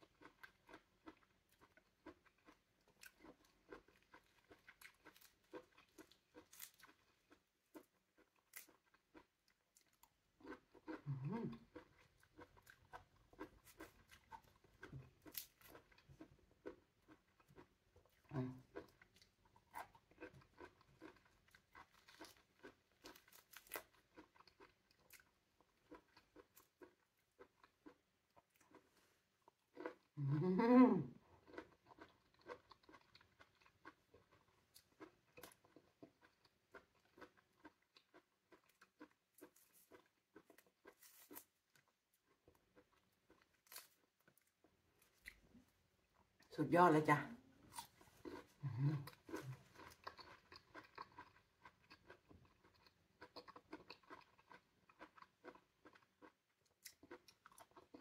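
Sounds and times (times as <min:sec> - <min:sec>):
soft chewing and mouth clicks: 0:00.0 - 0:30.5, 0:31.2 - 0:46.5, 0:47.6 - 0:58.0.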